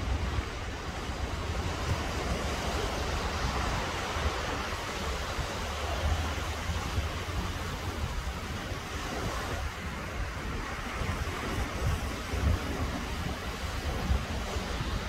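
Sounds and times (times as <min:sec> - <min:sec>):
small waves breaking on shore: 0:00.0 - 0:15.0
wind rumble on microphone: 0:00.0 - 0:15.0.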